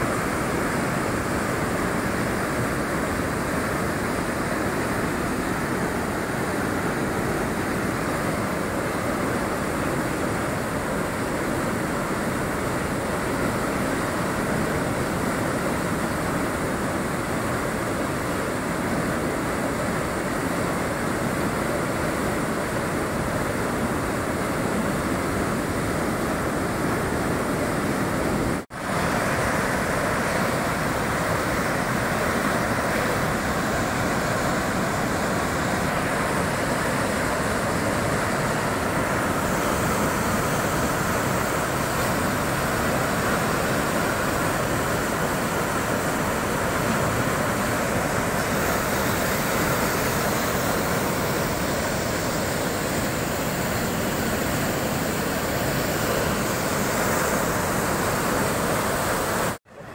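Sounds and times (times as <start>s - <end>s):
rushing floodwater: 0.0s - 59.9s.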